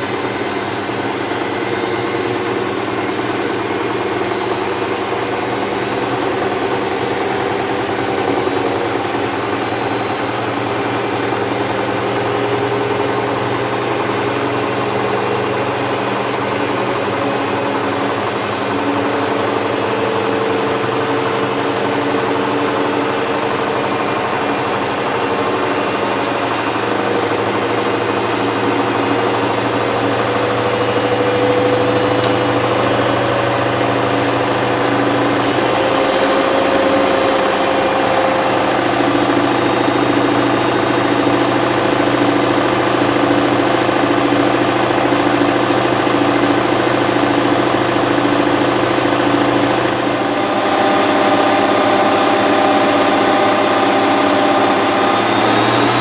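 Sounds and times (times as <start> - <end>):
washer dryer whirring and whining: 0.0 - 56.0.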